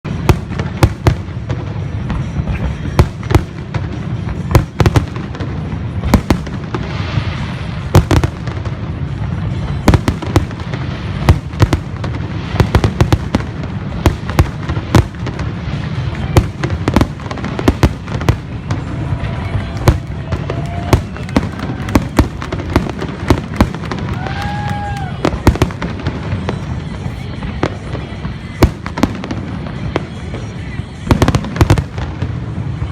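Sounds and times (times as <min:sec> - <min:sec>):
fireworks crackling: 0:00.0 - 0:32.9
fireworks bangs and booms: 0:00.1 - 0:32.9.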